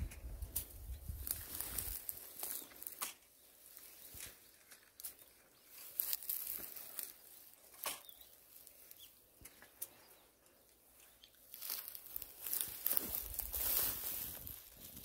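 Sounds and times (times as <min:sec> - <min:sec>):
twigs rustling and crackling: 0:00.0 - 0:15.0.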